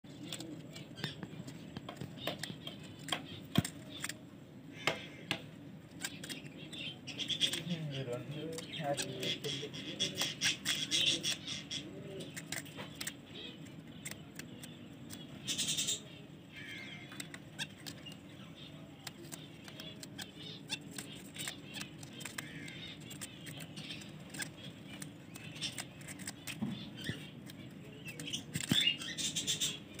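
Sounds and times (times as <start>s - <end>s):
low background rumble: 0.0s - 30.0s
finches chirping: 0.1s - 30.0s.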